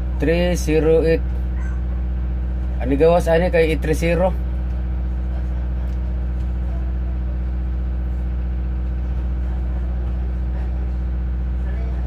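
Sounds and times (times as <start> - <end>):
ship engine droning: 0.0 - 12.0.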